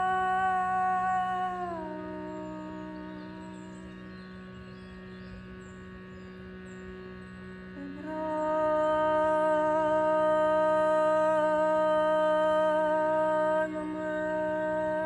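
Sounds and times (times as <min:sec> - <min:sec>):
shrutibox drone: 0:00.0 - 0:15.0.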